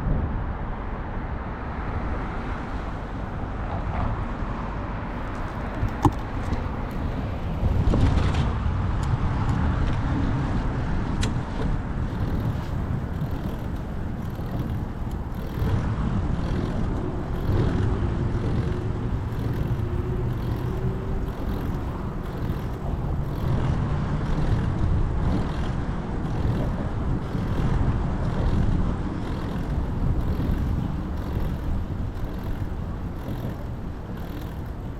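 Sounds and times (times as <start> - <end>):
road and wind rumble: 0.0 - 34.9.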